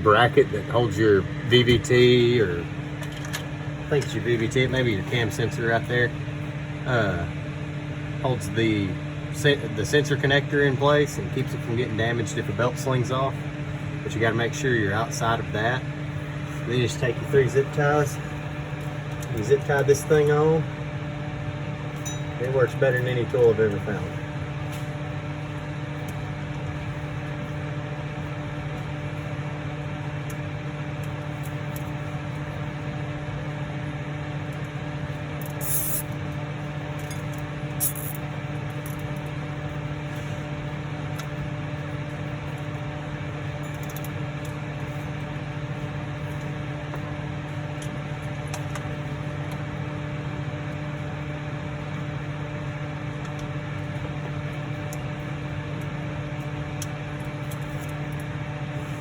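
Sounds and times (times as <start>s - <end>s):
machine hum from motor or fan: 0.0s - 59.0s.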